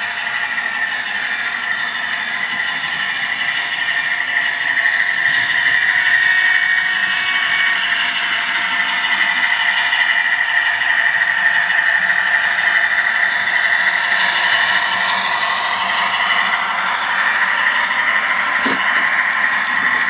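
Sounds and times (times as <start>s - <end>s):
model train diesel engine sound: 0.0s - 20.0s.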